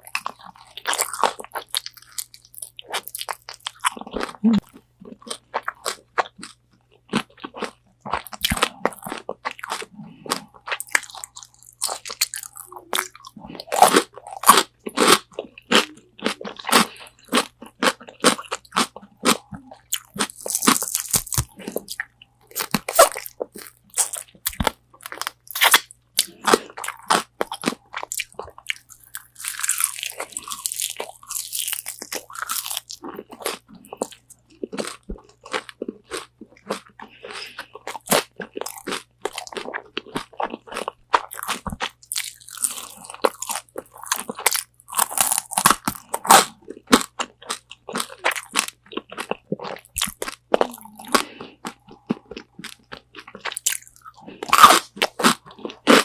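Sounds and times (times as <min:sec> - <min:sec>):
crunchy chewing of fried chicken: 0:00.0 - 0:56.0.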